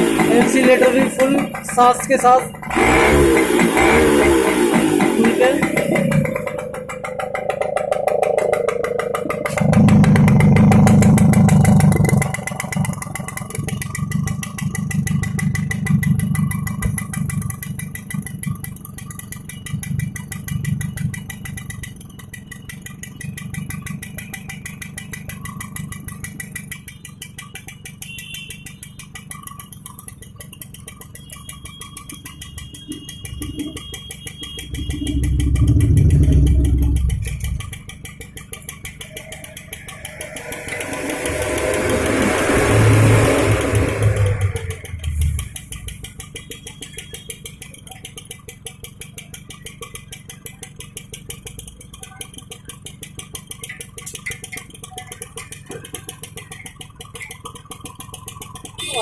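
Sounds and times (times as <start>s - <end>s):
moped engine revving: 0.0s - 59.0s.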